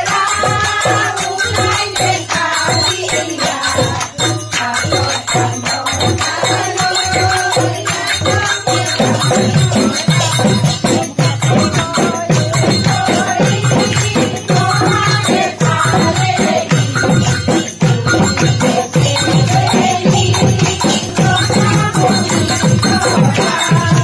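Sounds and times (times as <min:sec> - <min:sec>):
jingling shaken percussion: 0:00.0 - 0:24.0
steady drumbeat: 0:00.0 - 0:24.0.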